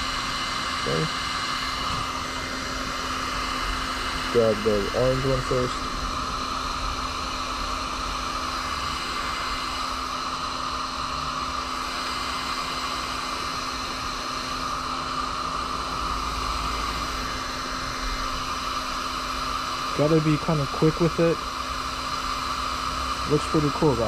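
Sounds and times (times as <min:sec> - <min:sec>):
heat gun blowing air: 0:00.0 - 0:24.0
low motor hum: 0:00.0 - 0:24.0.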